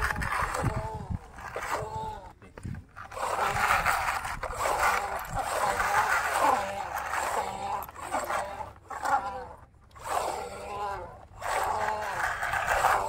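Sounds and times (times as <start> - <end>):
people talking: 0.0 - 2.8, 4.6 - 13.0.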